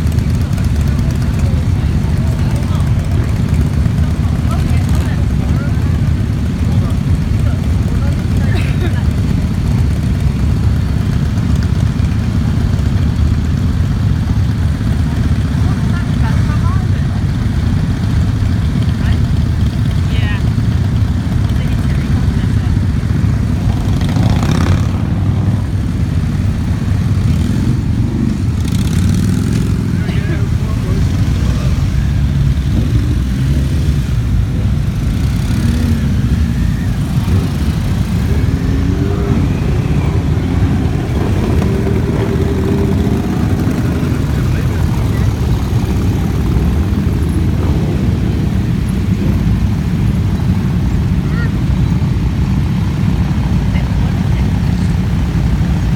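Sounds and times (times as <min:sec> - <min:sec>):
motorcycles riding past: 0:00.0 - 0:55.9.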